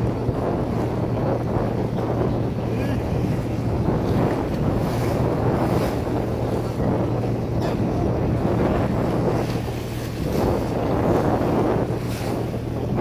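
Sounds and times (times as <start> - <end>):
motorboat engine humming: 0.0 - 13.0
waves splashing against hull: 0.0 - 13.0
wind buffeting microphone: 0.0 - 13.0.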